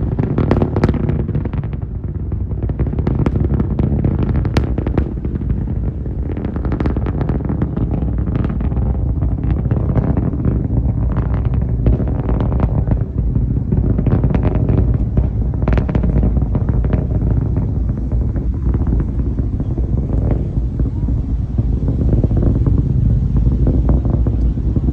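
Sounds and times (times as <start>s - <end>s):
rocket engine crackling: 0.0s - 24.9s
rocket engines rumbling: 0.0s - 24.9s.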